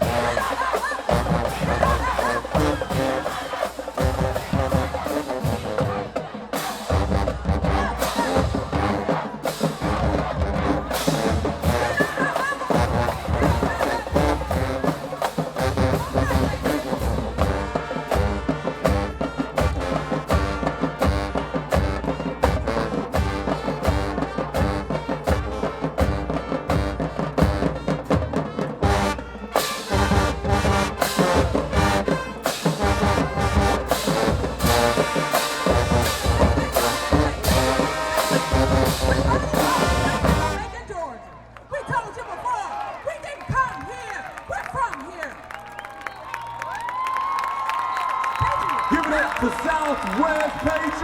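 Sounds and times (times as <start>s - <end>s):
driving drum beat: 0.0s - 40.9s
marching band playing: 0.0s - 41.5s, 43.5s - 51.0s.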